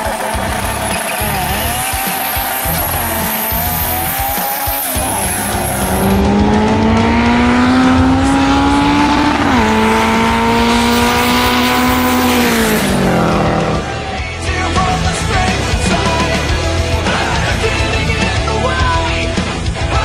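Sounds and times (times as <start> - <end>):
race car engine at full throttle: 0.0 - 20.0.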